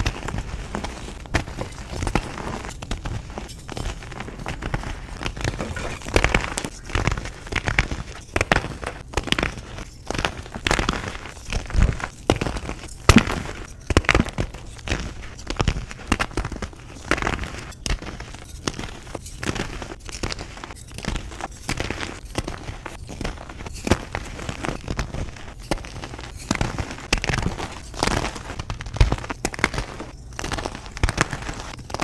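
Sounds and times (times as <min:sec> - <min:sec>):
chalk blocks crunching: 0:00.0 - 0:32.0.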